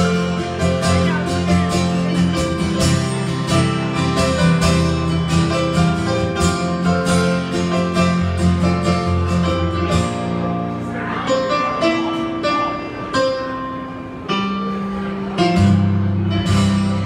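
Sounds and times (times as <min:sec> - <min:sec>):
keyboard chords: 0:00.0 - 0:17.0
low bass notes: 0:00.0 - 0:17.0
plucked guitar-like sound: 0:00.0 - 0:17.0.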